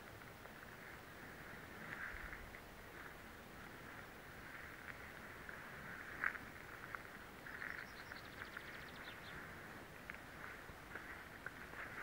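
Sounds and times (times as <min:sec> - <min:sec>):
birds chirping: 0:00.7 - 0:12.0.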